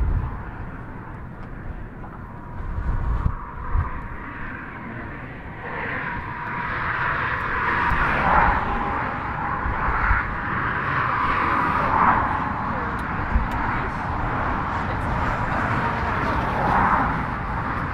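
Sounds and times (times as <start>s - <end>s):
road traffic: 0.0s - 17.9s
wind gusting on microphone: 0.0s - 17.9s
vehicle passing: 2.4s - 17.9s.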